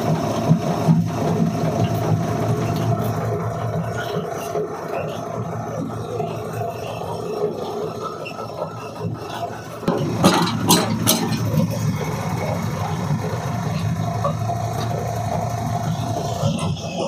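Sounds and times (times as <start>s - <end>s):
stone mill grinding: 0.0s - 17.0s.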